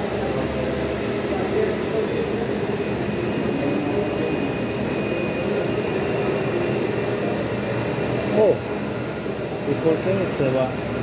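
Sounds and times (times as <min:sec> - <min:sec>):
jet engines at low power: 0:00.0 - 0:11.0.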